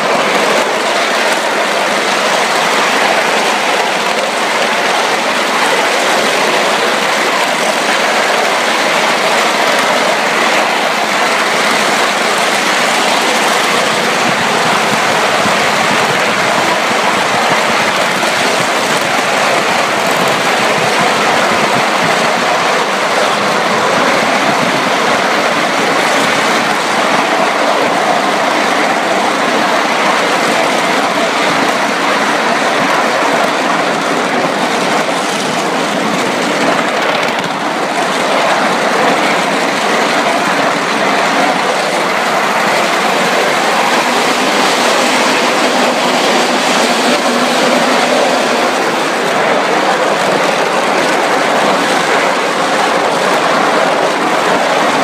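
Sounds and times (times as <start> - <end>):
miniature steam locomotive running: 0.0 - 55.0
wheels on rail: 0.0 - 55.0.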